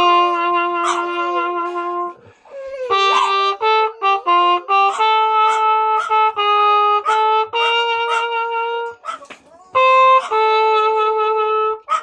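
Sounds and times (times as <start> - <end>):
brass horn playing slow melody: 0.0 - 9.1, 9.7 - 12.0
light beat: 0.0 - 11.7.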